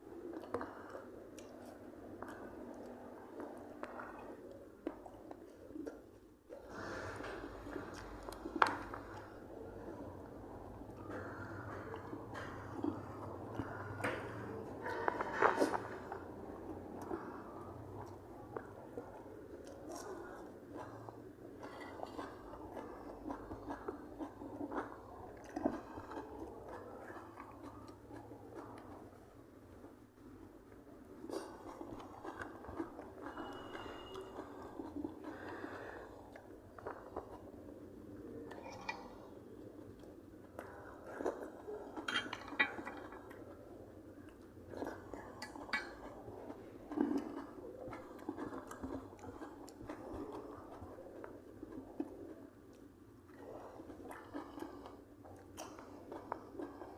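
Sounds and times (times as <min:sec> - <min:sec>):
person chewing with mouth sounds: 0:00.0 - 0:56.9.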